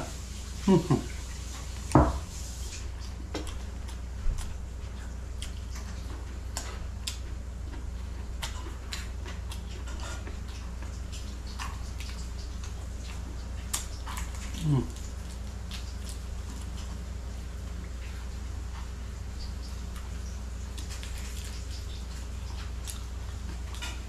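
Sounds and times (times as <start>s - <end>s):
faint low hum: 0.0s - 24.0s
chewing clicks and crackles: 3.0s - 17.1s, 17.7s - 24.0s.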